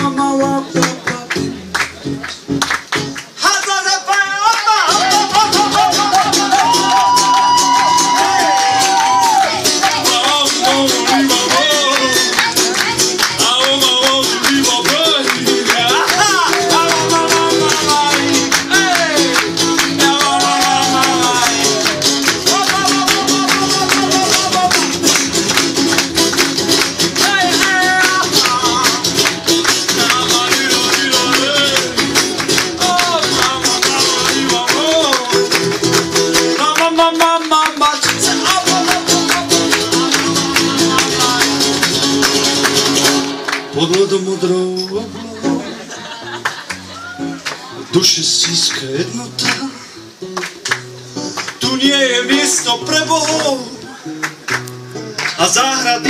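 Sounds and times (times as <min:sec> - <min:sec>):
person singing wordlessly: 0:00.0 - 0:01.7, 0:03.4 - 0:45.9, 0:47.1 - 0:50.2, 0:51.4 - 0:54.2, 0:55.1 - 0:56.0
acoustic guitar strumming: 0:00.0 - 0:56.0.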